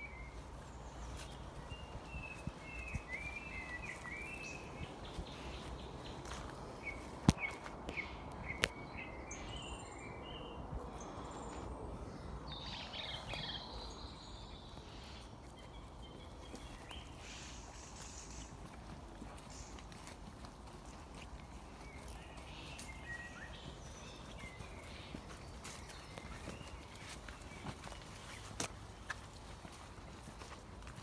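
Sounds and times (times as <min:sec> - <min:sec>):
birds chirping and singing: 0:00.0 - 0:18.7, 0:20.8 - 0:28.5.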